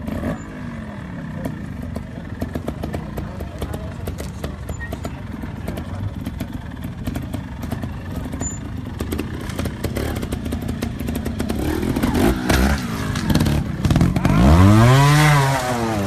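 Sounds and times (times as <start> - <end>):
motorcycle engine putter: 1.4 - 14.7.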